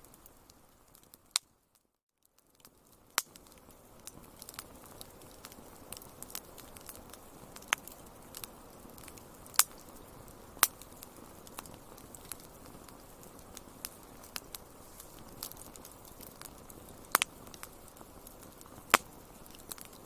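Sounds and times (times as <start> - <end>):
soft hiss of fire: 0.0 - 20.0
wood fire crackling: 0.0 - 20.0.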